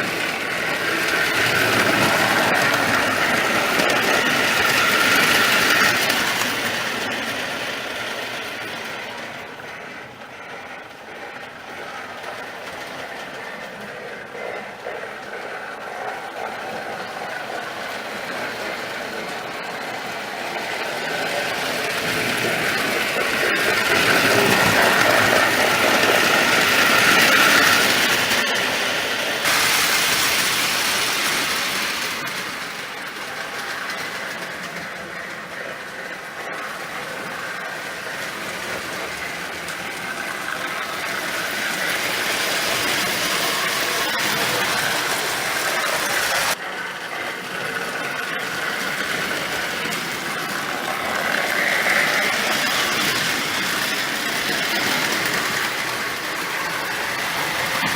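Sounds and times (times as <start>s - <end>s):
toy train motor whir: 0.0s - 57.9s
wheels clattering over rails: 0.0s - 57.9s.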